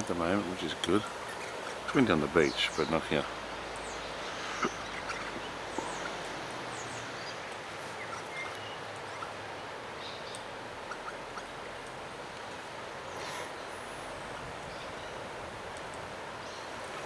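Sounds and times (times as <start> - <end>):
rough water rushing: 0.0 - 17.0
small birds chirping: 0.0 - 17.0
wind: 0.0 - 17.0.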